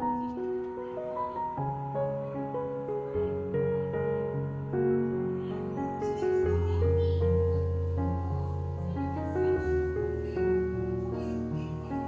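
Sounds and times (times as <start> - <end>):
soft instrumental background music: 0.0 - 12.0.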